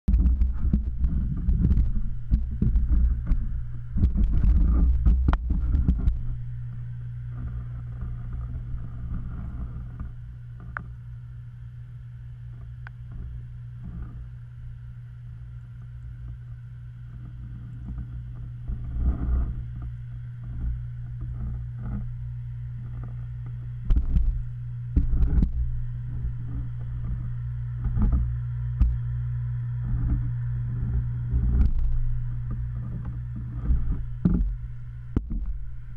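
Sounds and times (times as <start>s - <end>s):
pump hum underwater: 0.0s - 35.9s.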